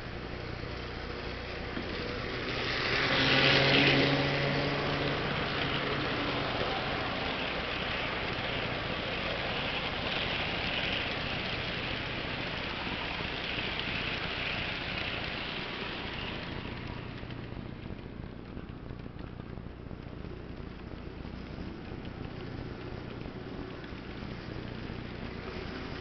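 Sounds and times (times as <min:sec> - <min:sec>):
model train cars rattling on rails: 0:00.0 - 0:26.0.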